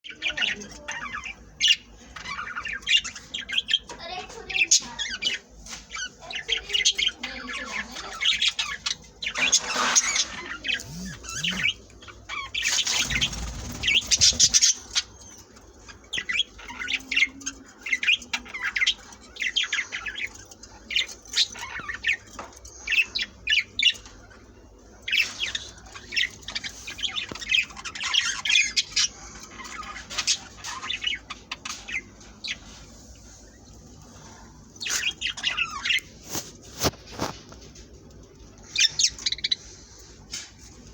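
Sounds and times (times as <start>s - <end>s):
budgerigars chirping and squawking: 0.1s - 40.9s.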